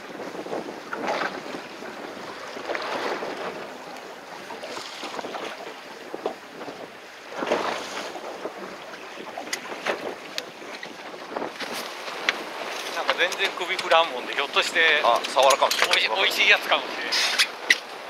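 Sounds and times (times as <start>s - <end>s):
water sloshing against boat hull: 0.0s - 18.0s
wind buffeting microphone: 0.0s - 18.0s.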